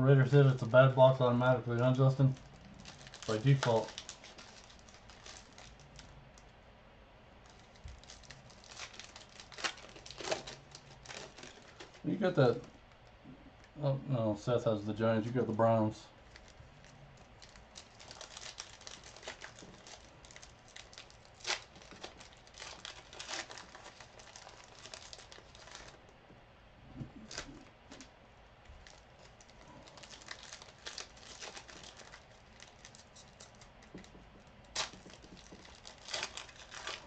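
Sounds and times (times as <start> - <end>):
card wrappers crinkling and tearing: 0.2 - 6.2, 7.4 - 13.1, 16.2 - 26.0, 27.2 - 28.1, 28.7 - 37.0.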